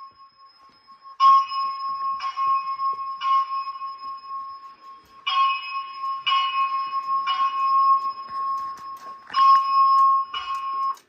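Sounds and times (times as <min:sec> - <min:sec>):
alarm ringing tone with bell strikes: 0:00.0 - 0:11.0.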